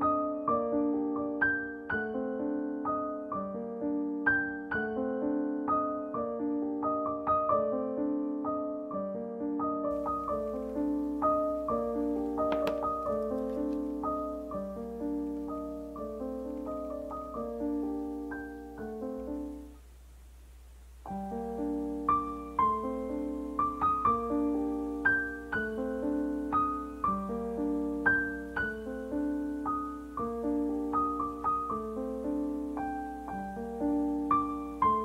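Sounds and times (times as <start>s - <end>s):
gentle piano music: 0.0s - 19.8s, 21.0s - 35.0s.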